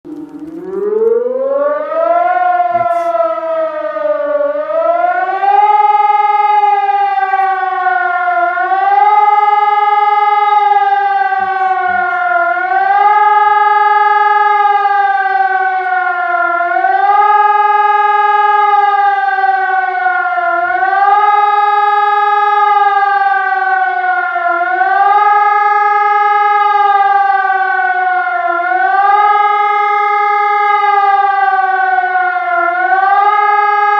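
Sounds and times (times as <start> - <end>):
civil defense siren howling: 0.0 - 33.9.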